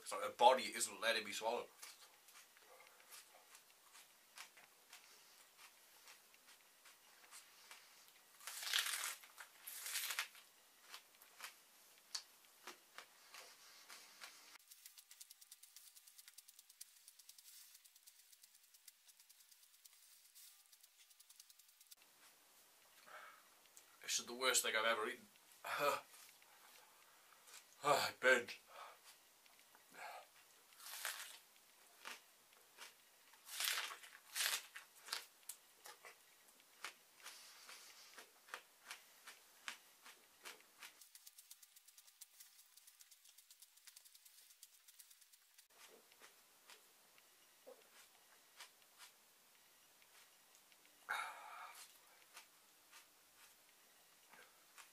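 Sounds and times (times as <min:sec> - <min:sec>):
chewing raw onion: 0:01.8 - 0:22.1, 0:29.1 - 0:54.9.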